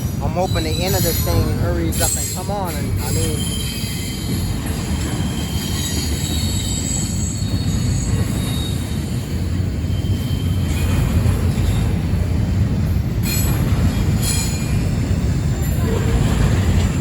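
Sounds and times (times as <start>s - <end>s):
freight train rumbling past: 0.0s - 17.0s
train wheels squealing: 0.0s - 17.0s.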